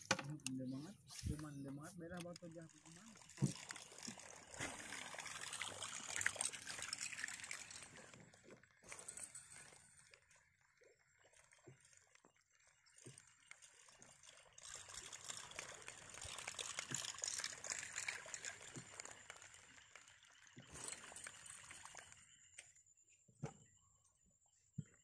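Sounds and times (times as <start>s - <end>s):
water trickling and splashing: 0.0s - 22.8s.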